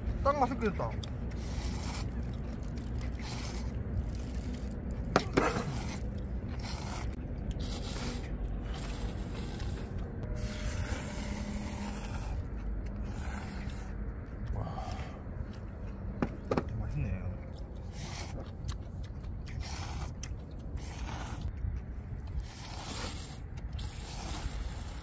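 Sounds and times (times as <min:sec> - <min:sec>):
people slurping noodles: 0:00.5 - 0:17.0, 0:17.8 - 0:21.5, 0:22.3 - 0:25.0.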